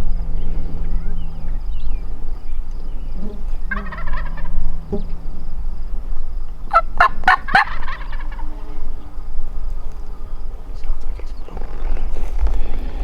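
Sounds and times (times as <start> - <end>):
low rumble: 0.0 - 13.0
turkey gobbling: 0.2 - 13.0.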